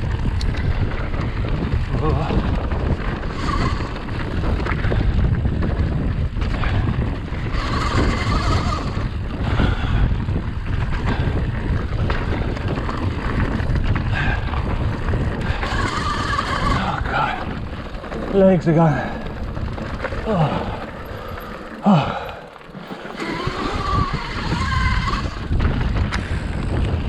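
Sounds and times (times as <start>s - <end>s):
bike tyres on dirt trail: 0.0s - 27.0s
wind buffeting microphone: 0.0s - 27.0s.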